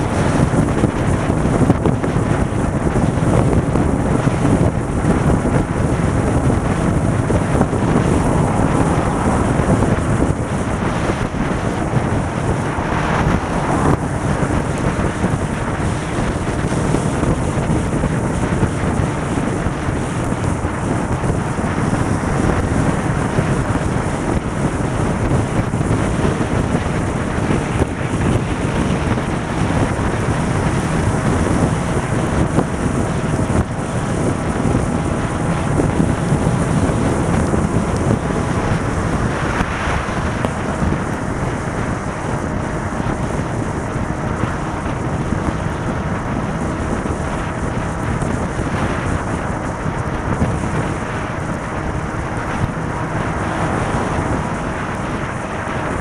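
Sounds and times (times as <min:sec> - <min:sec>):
motorcycle engine: 0:00.0 - 0:56.0
wind buffeting microphone: 0:00.0 - 0:56.0.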